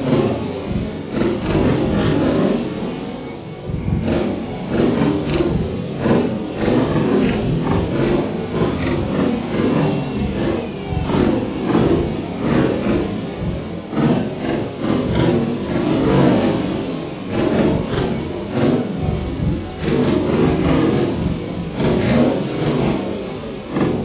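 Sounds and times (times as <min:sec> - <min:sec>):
continuous low rumble: 0:00.0 - 0:24.0.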